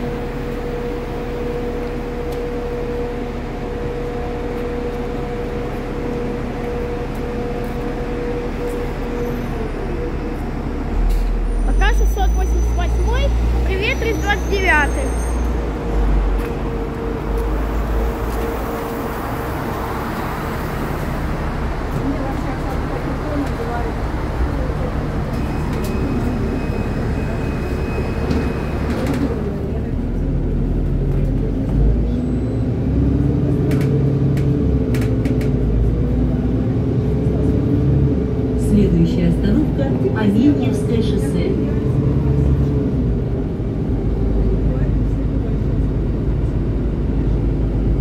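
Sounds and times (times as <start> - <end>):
bus drive and tyres rumbling: 0.0 - 48.0.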